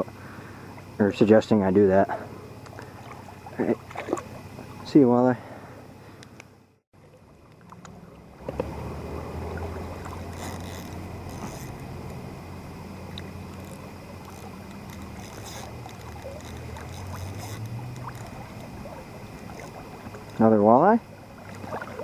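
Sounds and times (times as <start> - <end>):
low hum: 0.0 - 22.0
river flowing: 1.8 - 22.0.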